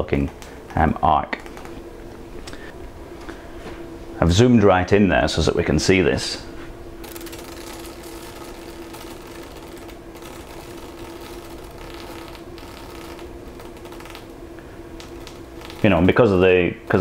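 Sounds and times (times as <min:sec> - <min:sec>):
electric arc crackling buzz: 0:00.0 - 0:02.8, 0:06.1 - 0:17.0
constant hum: 0:00.0 - 0:17.0.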